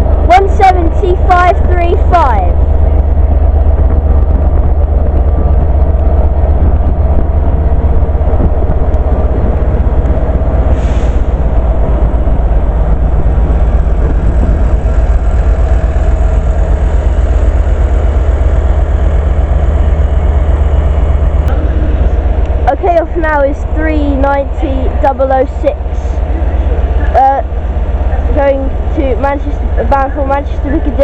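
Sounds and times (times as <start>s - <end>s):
constant hum: 0.0s - 31.0s
locomotive engine idling: 0.0s - 31.0s.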